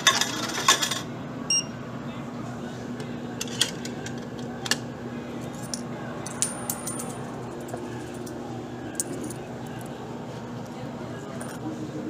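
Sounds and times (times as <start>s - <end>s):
vending machine electrical hum: 0.0s - 12.0s.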